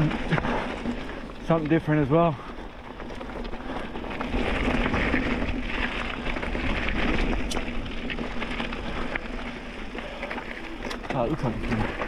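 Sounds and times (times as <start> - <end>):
bike rattling and knocking: 0.0 - 12.0
bike tyres on dirt and rock: 0.0 - 12.0.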